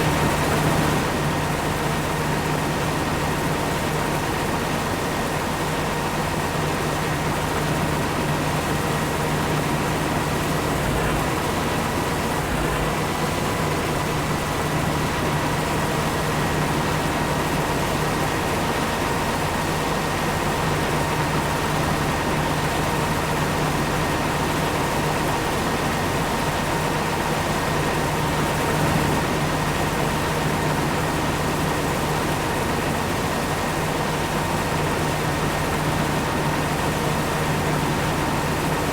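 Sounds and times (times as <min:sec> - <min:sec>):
farm machinery engine drone: 0:00.0 - 0:38.9.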